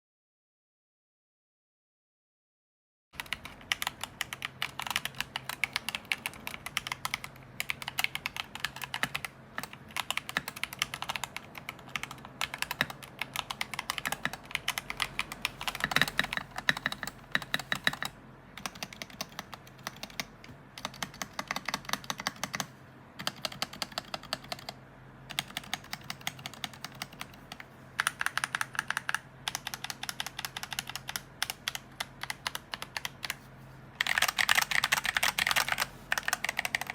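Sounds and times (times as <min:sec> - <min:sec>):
mechanical keyboard typing: 0:03.2 - 0:33.4, 0:34.0 - 0:36.9.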